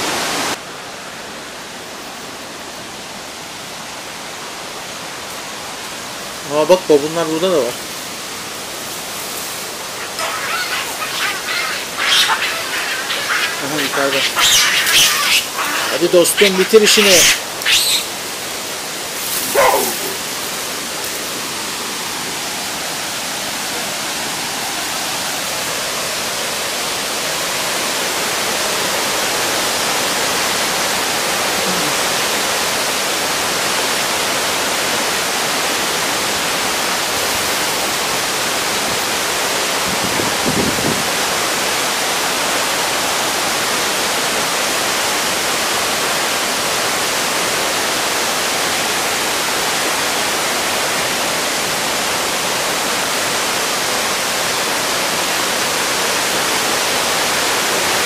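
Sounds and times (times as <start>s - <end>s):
waterfall rushing: 0.0s - 40.4s, 41.0s - 58.0s.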